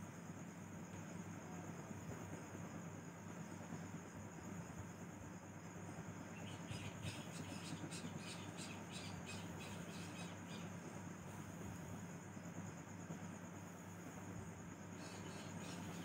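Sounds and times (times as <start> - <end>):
faint hum and hiss: 0.0 - 16.0.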